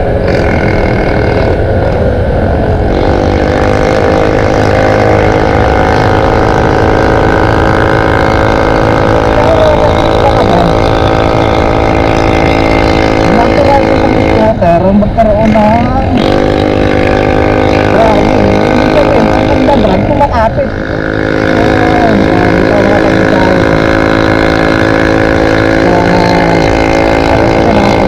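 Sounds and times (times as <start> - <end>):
scooter engine droning: 0.0 - 28.0
wind rumble on microphone: 0.0 - 28.0.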